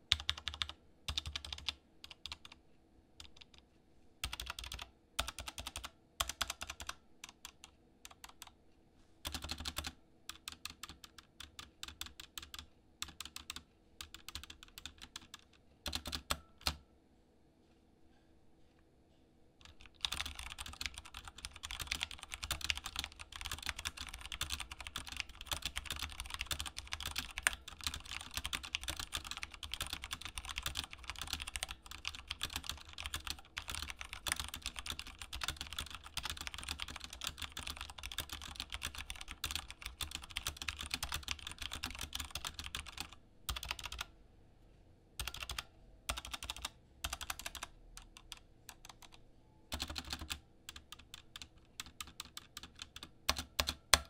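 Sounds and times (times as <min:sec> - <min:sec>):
mechanical keyboard typing: 0:00.1 - 0:02.6, 0:03.2 - 0:03.6, 0:04.2 - 0:08.6, 0:09.2 - 0:16.8, 0:19.6 - 0:44.1, 0:45.2 - 0:54.0.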